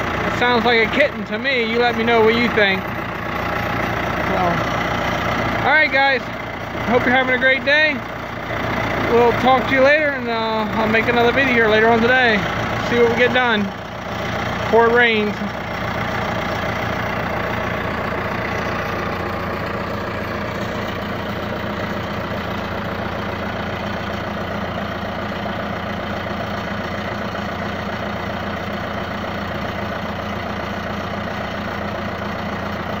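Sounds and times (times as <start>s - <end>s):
loader engine idling: 0.0s - 33.0s.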